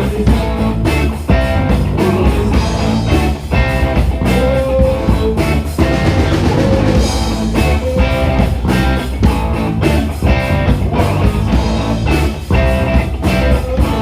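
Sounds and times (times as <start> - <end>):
drum kit beat: 0.0 - 14.0
live band playing funk rock: 0.0 - 14.0.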